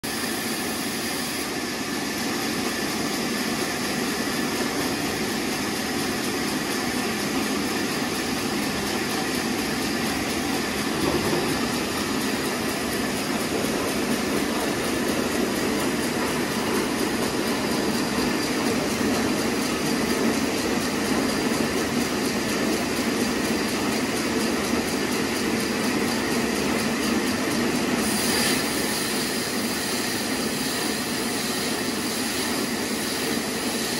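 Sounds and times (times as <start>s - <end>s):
band sawmill sawing log: 0.1s - 23.6s, 27.5s - 33.9s.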